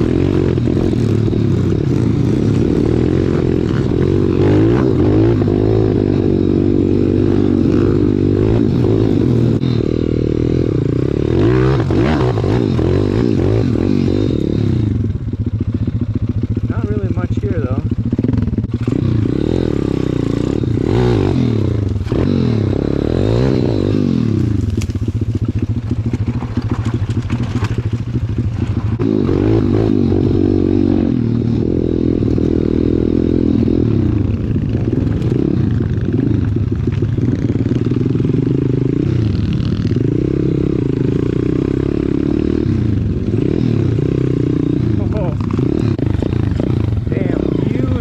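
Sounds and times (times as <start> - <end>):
motorbike engine revving: 0.0 - 48.0.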